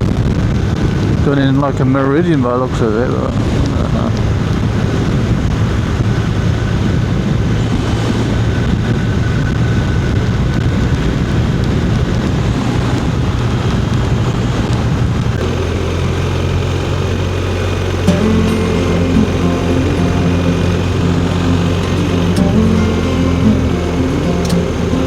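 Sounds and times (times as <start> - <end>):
road noise: 0.1 - 25.0.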